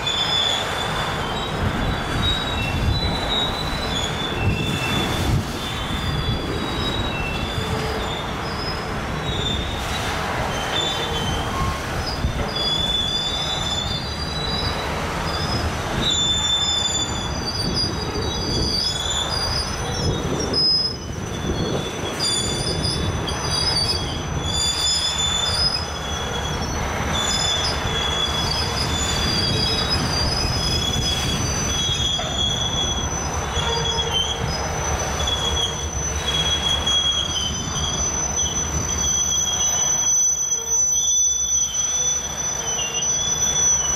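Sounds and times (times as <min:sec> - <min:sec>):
low rumble of wheels on track: 0:00.0 - 0:43.9
train wheels squealing: 0:00.0 - 0:43.9.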